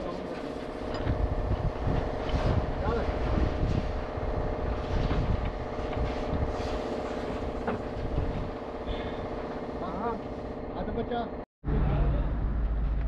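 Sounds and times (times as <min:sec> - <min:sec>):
engine running steadily: 0:00.1 - 0:13.0.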